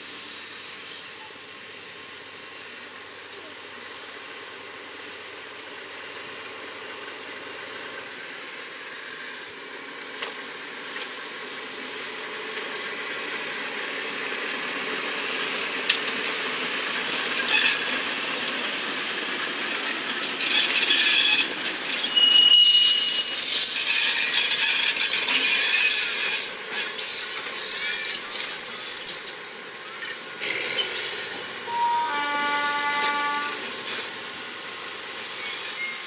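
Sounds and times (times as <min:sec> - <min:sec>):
steel wheels squealing on rails: 0:00.0 - 0:04.5, 0:06.4 - 0:36.0
train rolling: 0:00.0 - 0:36.0.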